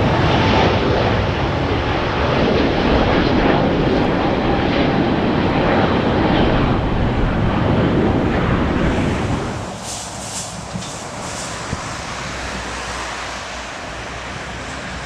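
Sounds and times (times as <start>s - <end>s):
airliner engines rushing: 0.0s - 15.0s.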